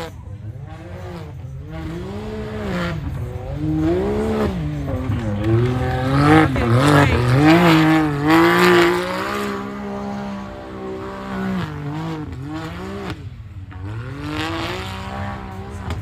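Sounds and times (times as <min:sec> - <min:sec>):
utv engine revving: 0:00.0 - 0:16.0.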